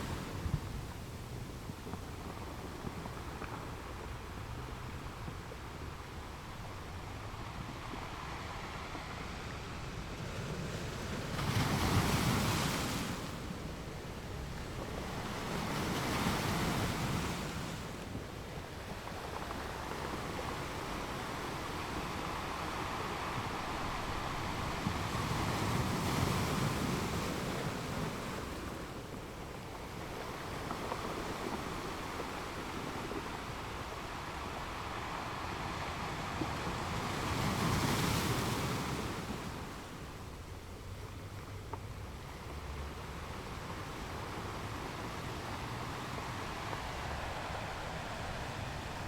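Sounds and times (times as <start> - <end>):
ocean waves breaking on beach: 0.0 - 49.0.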